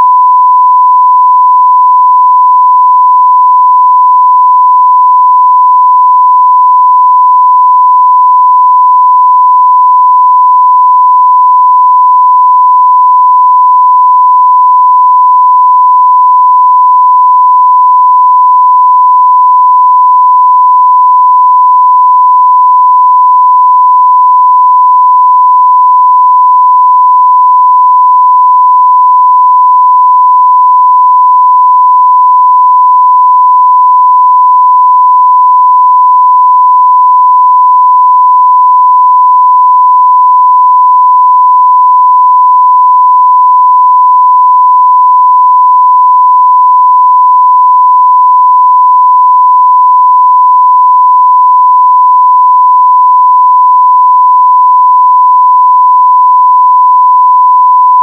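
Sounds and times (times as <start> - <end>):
sine-wave test tone: 0.0 - 58.0.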